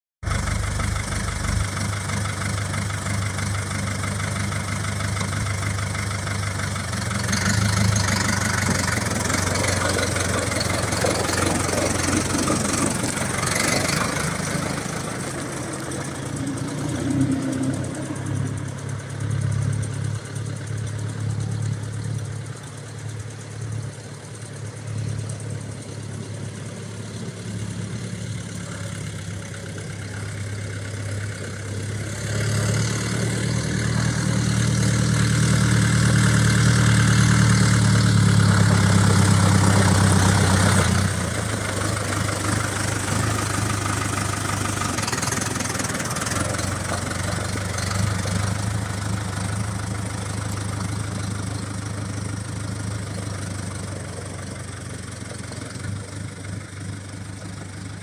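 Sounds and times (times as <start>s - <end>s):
tractor diesel engine running: 0.2s - 58.0s.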